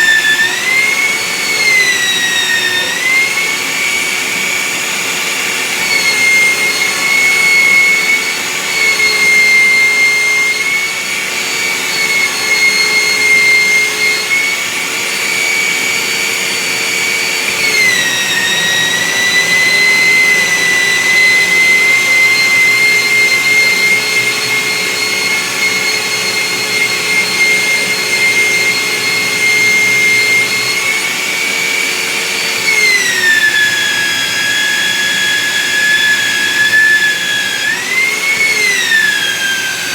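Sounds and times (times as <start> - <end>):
belt sander whining: 0.0 - 39.9
wood being sanded: 0.0 - 39.9.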